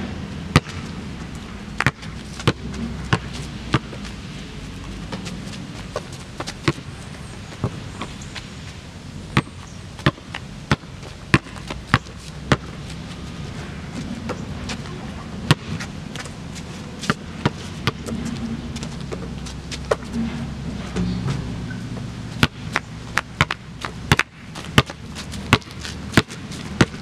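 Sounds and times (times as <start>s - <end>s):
basketball bouncing on pavement: 0.5s - 0.9s, 1.8s - 4.2s, 4.8s - 8.2s, 9.3s - 13.3s, 13.9s - 16.4s, 17.0s - 27.0s.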